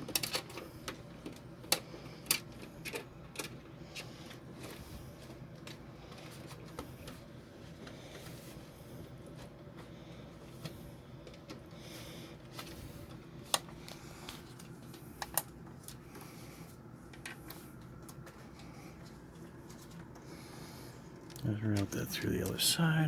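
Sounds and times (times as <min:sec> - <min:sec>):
low steady hum: 0:00.0 - 0:23.0
wire and plastic parts rustling: 0:00.0 - 0:23.0.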